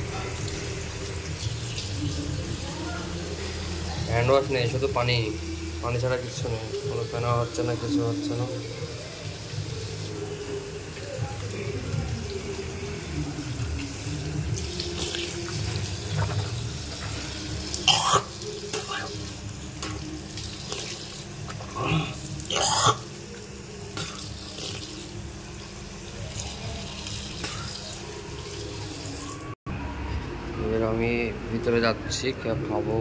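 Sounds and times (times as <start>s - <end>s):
tap water running into basin: 0.0s - 29.5s.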